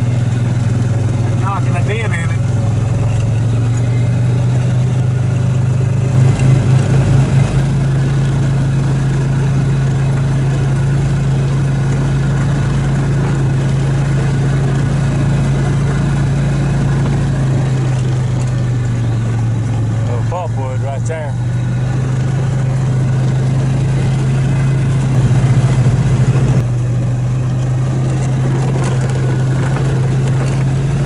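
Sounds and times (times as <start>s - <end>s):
utility vehicle engine humming: 0.0s - 31.0s.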